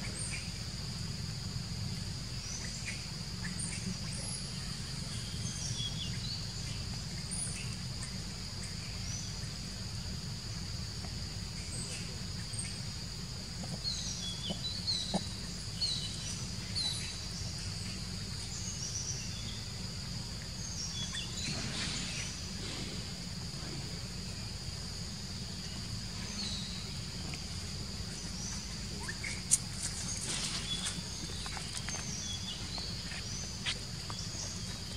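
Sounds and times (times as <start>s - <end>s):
high insect drone: 0.0s - 34.9s
low steady rumble: 0.0s - 34.9s.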